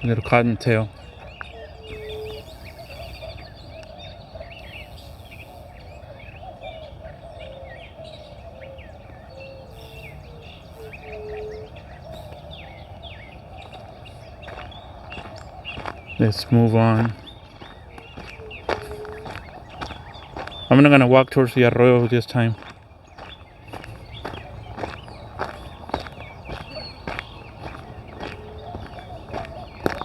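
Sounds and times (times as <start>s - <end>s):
wild birds chirping: 0.0s - 30.0s.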